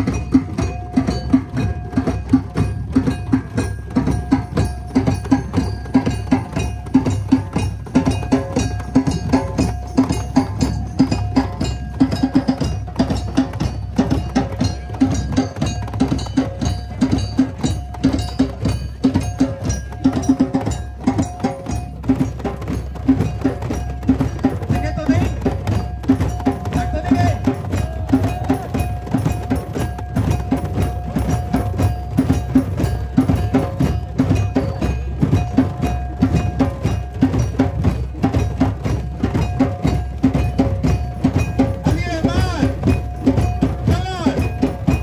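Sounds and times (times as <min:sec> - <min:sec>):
hand drums playing rhythm: 0:00.0 - 0:45.0.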